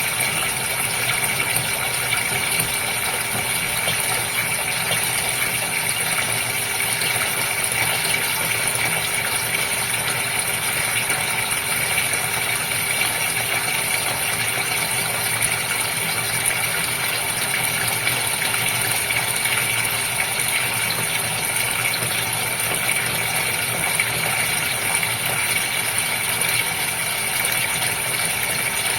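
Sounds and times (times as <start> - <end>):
aquarium pump running: 0.0 - 28.9.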